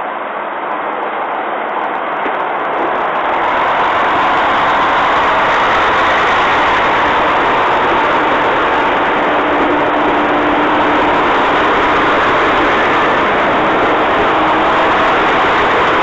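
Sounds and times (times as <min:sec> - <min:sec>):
diesel train running: 0:00.0 - 0:16.0
faint steady tones: 0:00.0 - 0:16.0.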